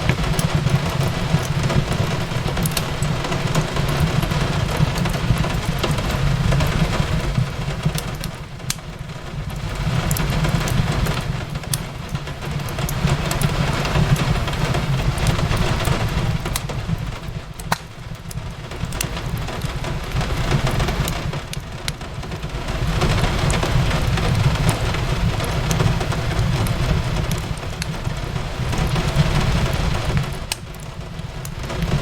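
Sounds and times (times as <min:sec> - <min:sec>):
rain on a window: 0:00.0 - 0:32.0
wood fire crackling and popping: 0:00.0 - 0:32.0.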